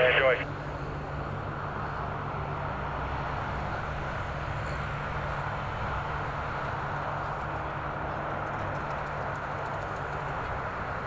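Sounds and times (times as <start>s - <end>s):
engines droning: 0.0s - 11.0s.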